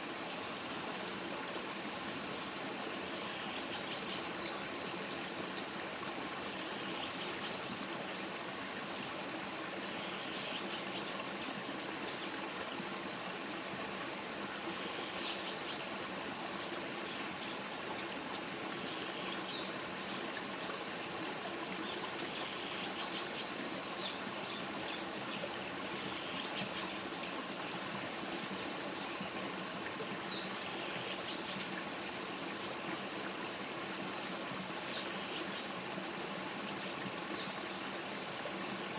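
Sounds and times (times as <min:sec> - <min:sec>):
stream of water flowing: 0:00.0 - 0:38.9.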